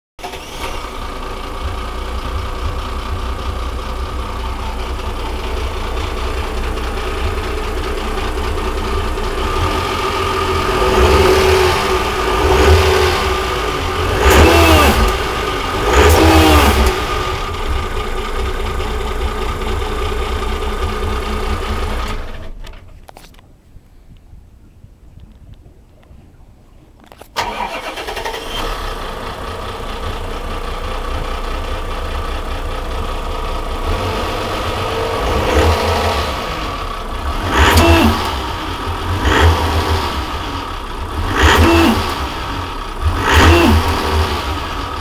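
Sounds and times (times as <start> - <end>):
boat engine idling and revving: 0.4 - 22.6, 27.7 - 45.0.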